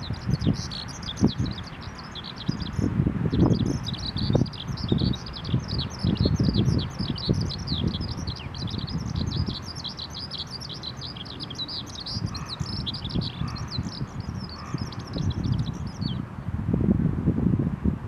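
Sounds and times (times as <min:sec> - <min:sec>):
skylark singing: 0:00.0 - 0:16.2
wind rumbling on microphone: 0:00.0 - 0:18.0.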